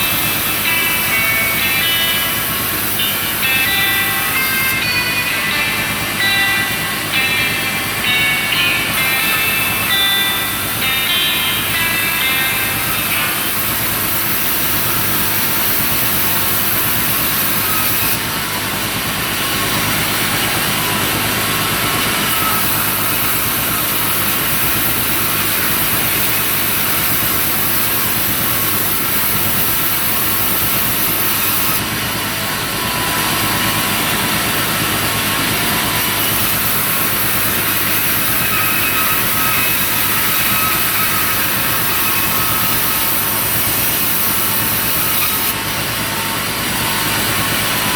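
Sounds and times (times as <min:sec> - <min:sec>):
hissing saw cutting timber: 0:00.0 - 0:47.9
machine drone: 0:00.0 - 0:47.9.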